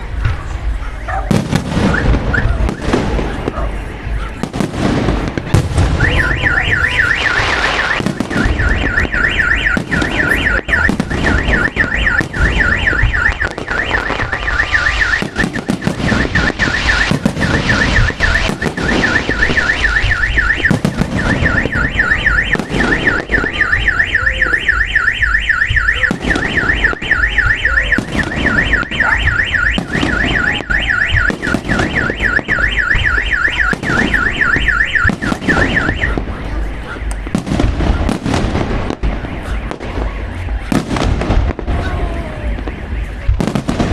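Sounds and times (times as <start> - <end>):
fireworks bangs and crackles: 0.0 - 43.9
car alarm siren warbling: 0.6 - 43.9.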